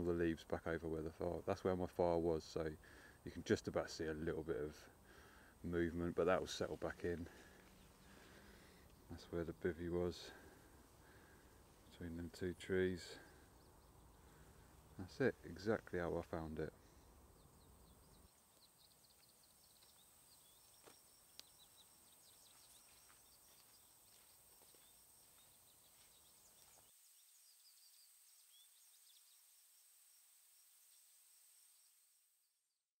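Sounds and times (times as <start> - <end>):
small birds chirping: 1.2 - 32.6.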